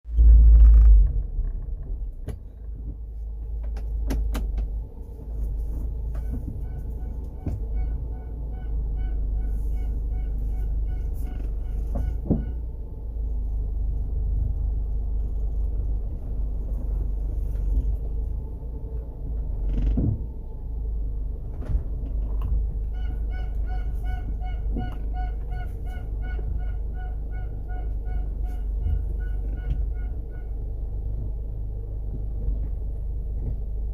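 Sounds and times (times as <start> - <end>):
car engine humming: 0.0 - 33.9.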